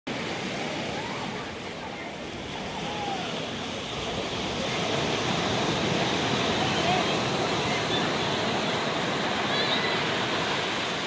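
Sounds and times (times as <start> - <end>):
rushing water: 0.1 - 11.0.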